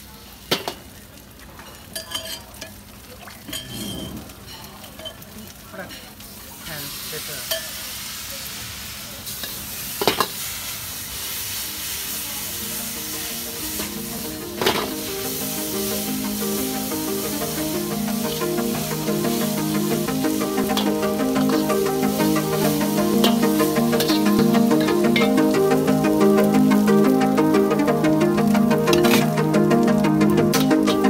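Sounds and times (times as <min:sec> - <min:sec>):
food sizzling in a wok: 0:00.0 - 0:31.0.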